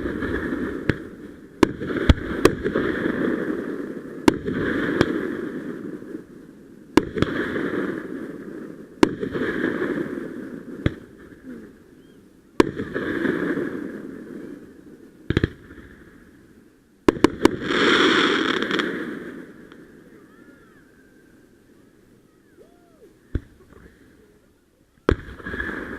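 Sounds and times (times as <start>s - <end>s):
fireworks bangs: 0.0s - 6.3s, 6.9s - 16.3s, 17.0s - 21.0s, 23.0s - 24.2s, 25.0s - 25.9s.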